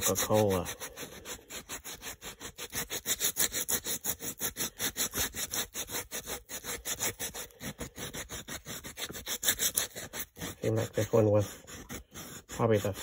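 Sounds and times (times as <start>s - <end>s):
foil scrubbing rusty metal: 0.0s - 13.0s.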